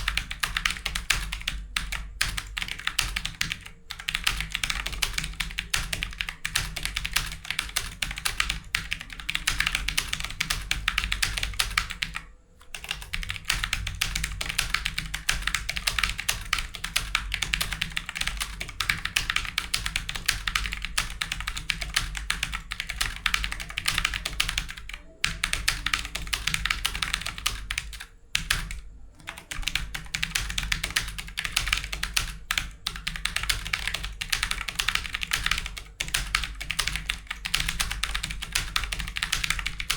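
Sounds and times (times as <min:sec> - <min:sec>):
keyboard typing clicks: 0:00.0 - 0:39.9.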